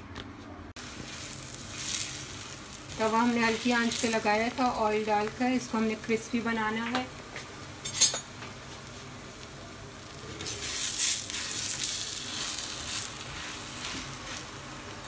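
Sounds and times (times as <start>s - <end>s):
flatbread sizzling in oil: 0.8s - 15.0s.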